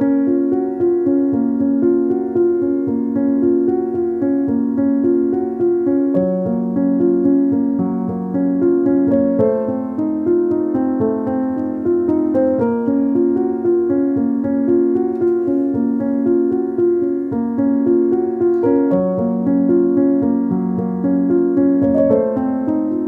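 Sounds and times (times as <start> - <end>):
sped up piano music: 0.0 - 23.0.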